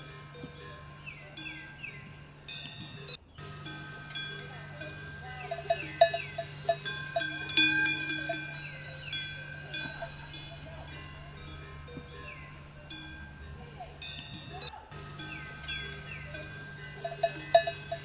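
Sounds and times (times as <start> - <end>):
metal bells clanking and ringing: 0.0 - 18.0.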